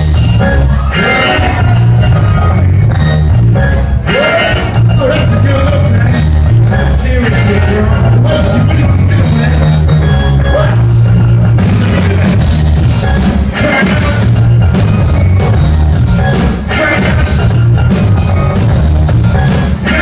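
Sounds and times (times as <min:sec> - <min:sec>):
live band playing bass-heavy music: 0:00.0 - 0:20.0.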